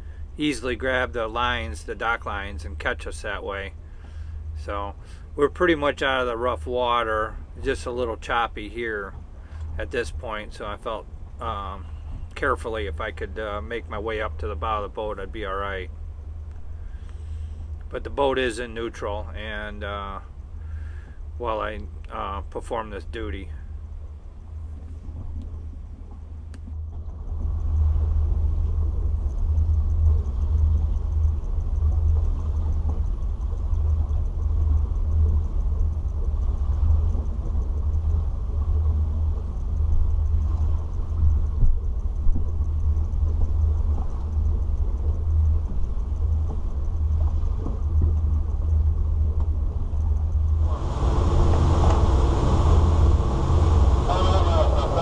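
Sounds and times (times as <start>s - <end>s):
boat engines idling: 0.0s - 55.0s.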